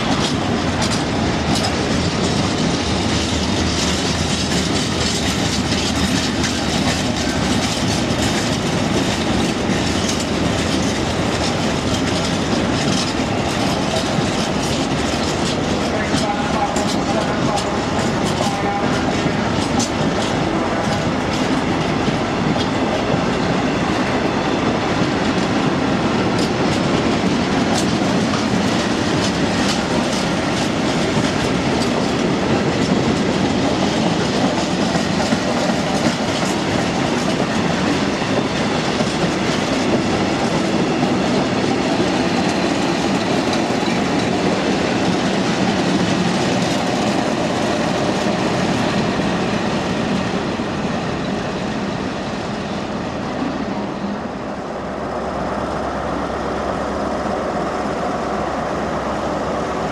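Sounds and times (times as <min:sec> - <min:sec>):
wheels clicking over rail joints: 0:00.0 - 0:51.8
freight train rumbling past: 0:00.0 - 0:59.9.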